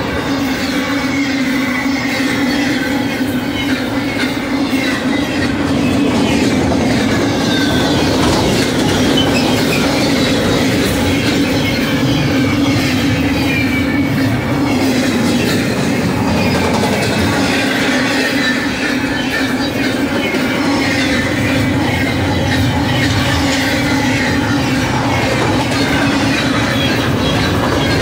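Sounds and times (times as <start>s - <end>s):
high wheel squeals: 0.0s - 28.0s
train wheels rumbling on rails: 0.0s - 28.0s.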